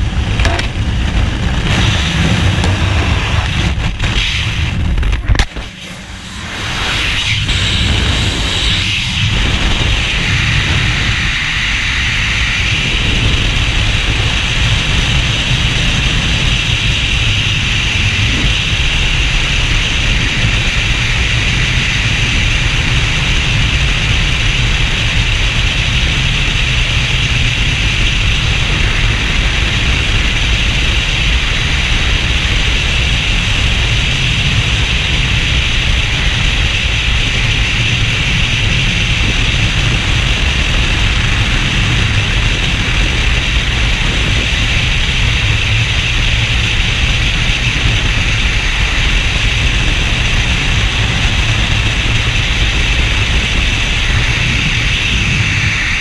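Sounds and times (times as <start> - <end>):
rush of wind on microphone: 0.0 - 56.0.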